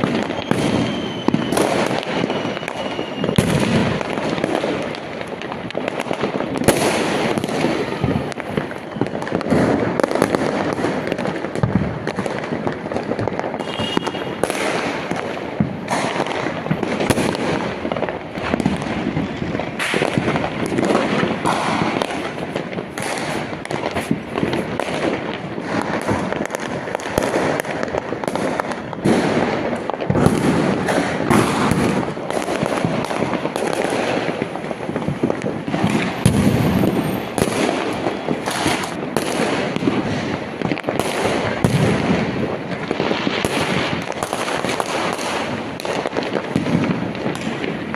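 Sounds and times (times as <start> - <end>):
firecrackers crackling and banging: 0.0 - 47.9.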